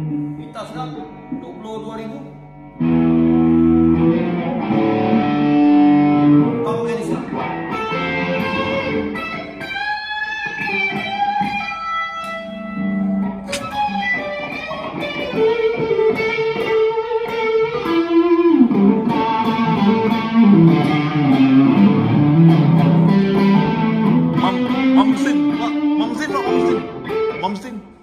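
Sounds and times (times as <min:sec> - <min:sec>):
electric guitar lead line: 0:00.0 - 0:28.0.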